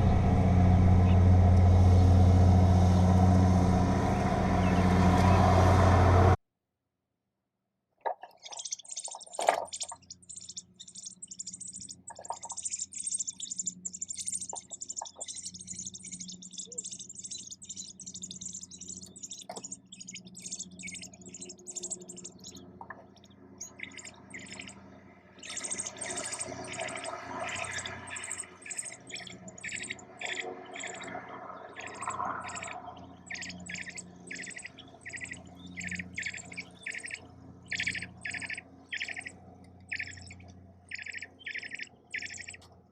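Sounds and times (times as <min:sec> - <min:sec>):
nestling birds chirping: 0:00.0 - 0:05.9, 0:08.1 - 0:42.8.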